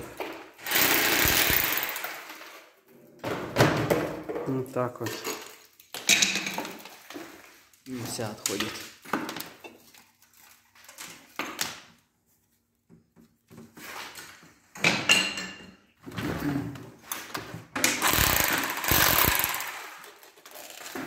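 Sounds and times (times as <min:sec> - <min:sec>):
wall tiles scraping and cracking: 0:00.0 - 0:14.8, 0:16.0 - 0:21.0.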